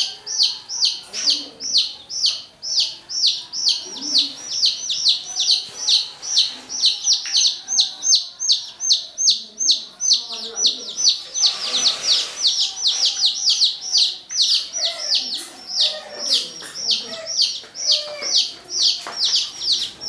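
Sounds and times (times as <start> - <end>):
baby chicks peeping: 0.0 - 20.0.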